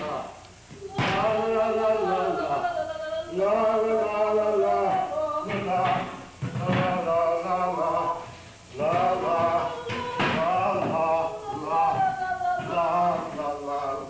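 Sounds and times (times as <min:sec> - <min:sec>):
voices singing la la la: 0:00.0 - 0:14.0.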